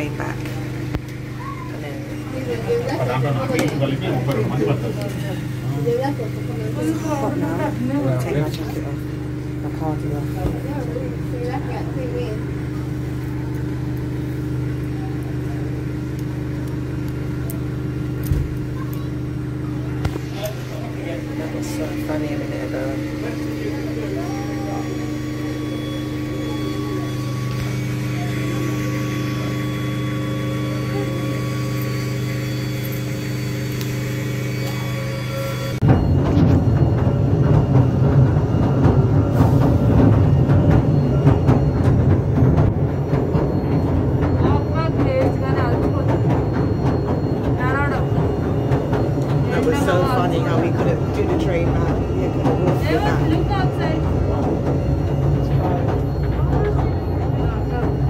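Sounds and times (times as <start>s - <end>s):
train running low drone: 0.0s - 58.0s.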